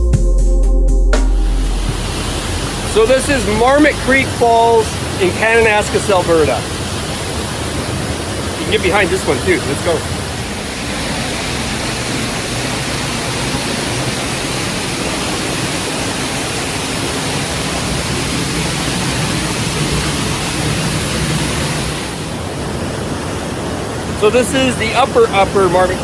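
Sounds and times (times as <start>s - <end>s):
waterfall roaring: 1.4s - 26.0s.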